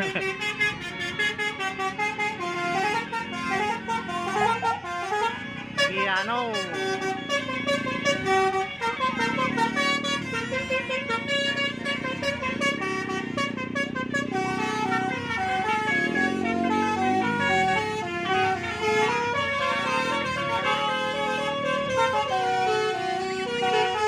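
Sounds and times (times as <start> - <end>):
multi-tone bus horn melody: 0.0 - 24.0.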